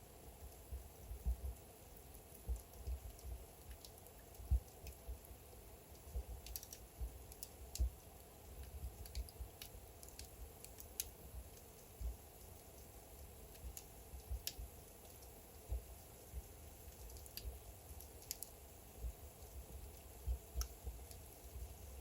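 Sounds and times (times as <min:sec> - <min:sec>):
faint steady hiss: 0:00.0 - 0:22.0
fire crackling and popping: 0:00.3 - 0:22.0.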